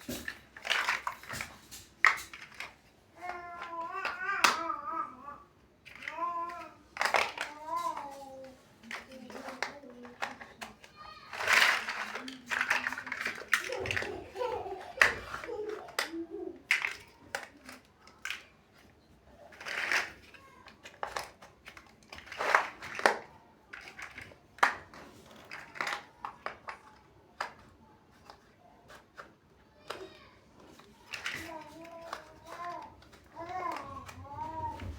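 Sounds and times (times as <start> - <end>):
plastic bricks clicking and rattling: 0.0 - 34.9.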